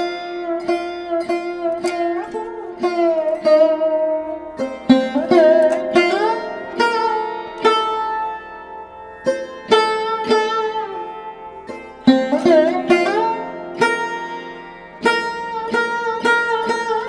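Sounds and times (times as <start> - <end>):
plucked string notes: 0.0 - 17.0.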